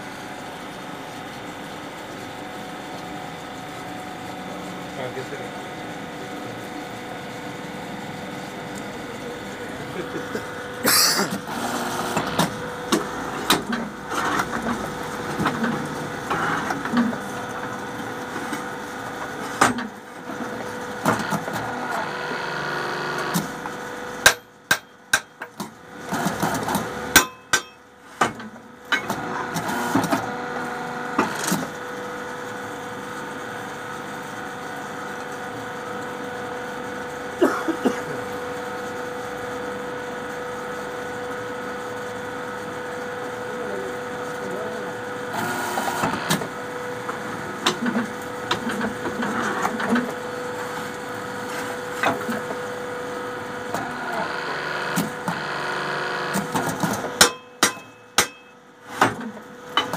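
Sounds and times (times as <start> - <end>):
motor and hydraulic pump humming: 0.0 - 59.9.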